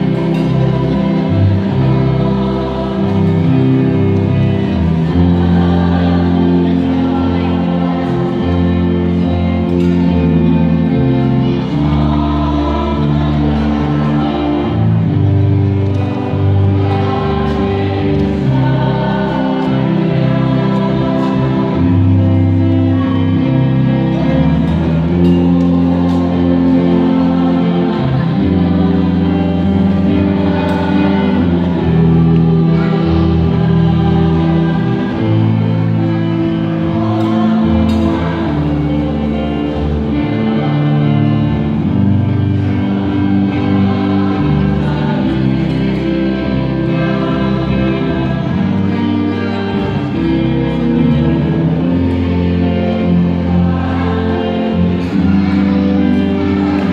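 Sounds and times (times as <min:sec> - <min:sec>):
choir singing a hymn: 0:00.0 - 0:56.9.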